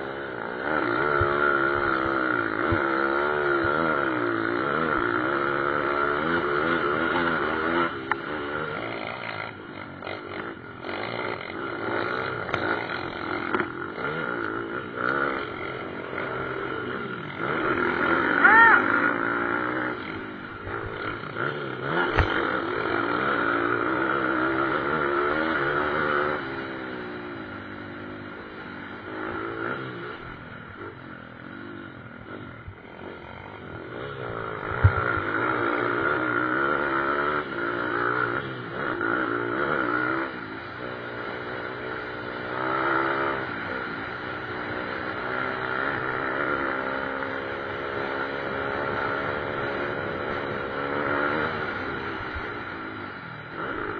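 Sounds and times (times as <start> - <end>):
pit bike engines revving: 0.0 - 53.9.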